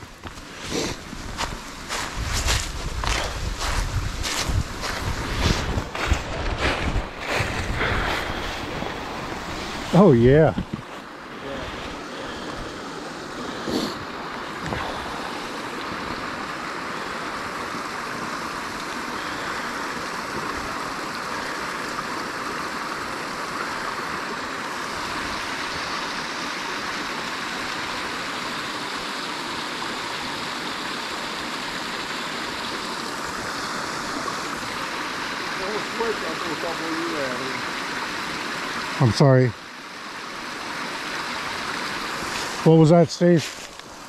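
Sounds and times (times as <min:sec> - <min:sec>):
rush of falling water: 0:00.0 - 0:44.0.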